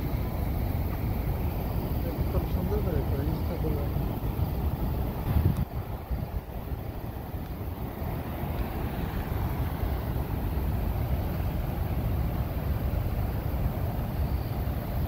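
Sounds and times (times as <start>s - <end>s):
wind buffeting microphone: 0.0s - 14.1s
waterfall roaring: 0.0s - 15.0s.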